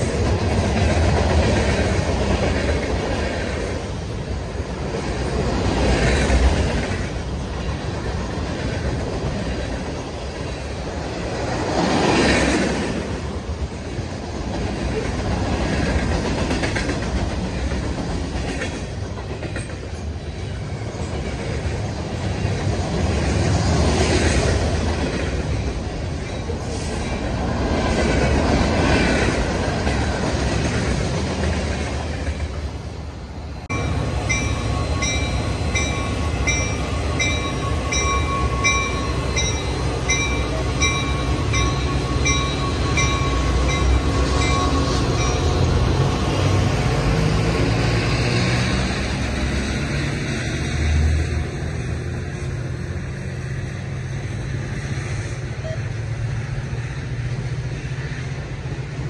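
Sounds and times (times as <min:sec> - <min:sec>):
train wheels running on rails: 0:00.0 - 0:59.0.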